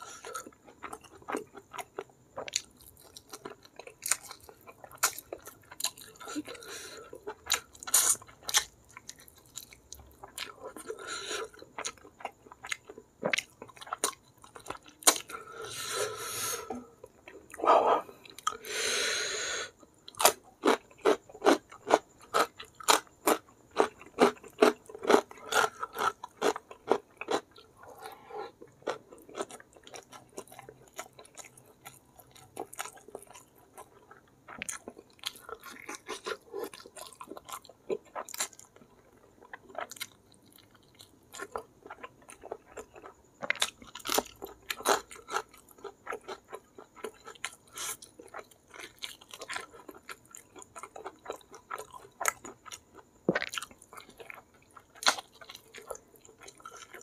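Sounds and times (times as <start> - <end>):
crunchy chewing: 0.0 - 18.9, 19.8 - 57.0.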